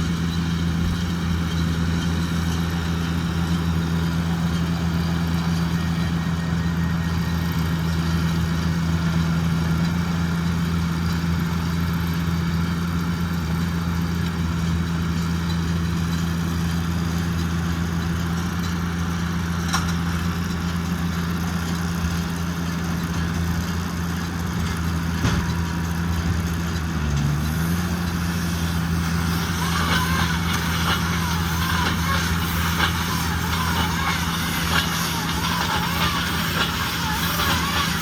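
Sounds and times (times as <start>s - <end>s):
tractor and baler droning: 0.0s - 38.0s.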